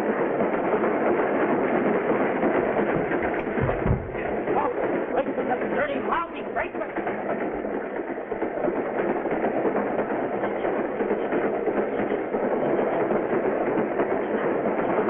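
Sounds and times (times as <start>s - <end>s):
moving freight train: 0.0s - 15.0s.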